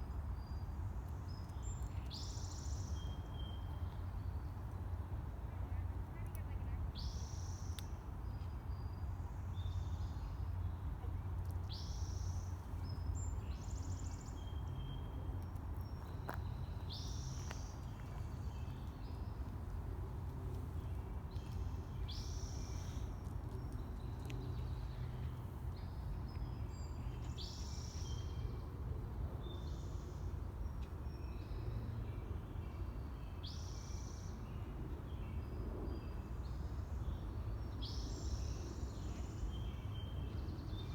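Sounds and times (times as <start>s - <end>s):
songbirds singing: 5.7s - 40.9s.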